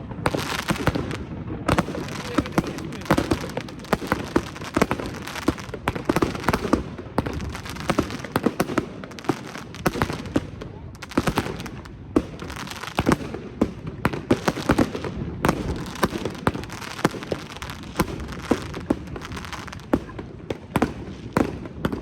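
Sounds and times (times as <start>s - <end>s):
firework bangs and crackling pops: 0.0s - 22.0s.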